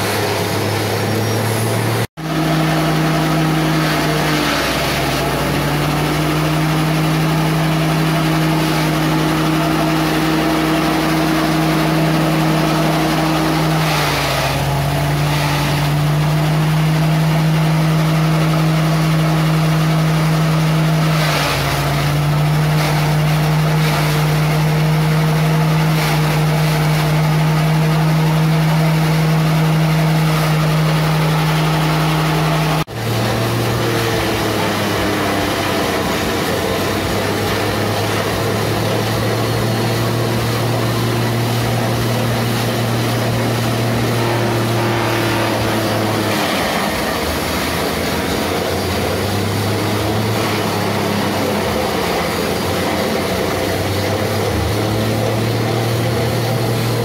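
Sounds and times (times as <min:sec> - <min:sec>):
frond chopper machine humming: 0:00.0 - 0:57.0.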